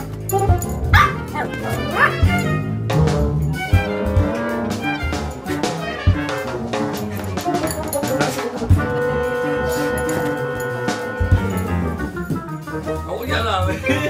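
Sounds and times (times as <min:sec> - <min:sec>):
jazzy music with brass and drums: 0:00.0 - 0:14.0.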